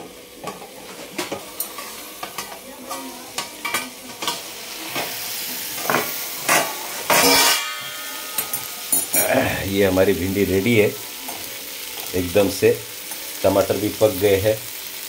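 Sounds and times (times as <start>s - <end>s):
vegetables sizzling in fat: 0.0s - 15.0s.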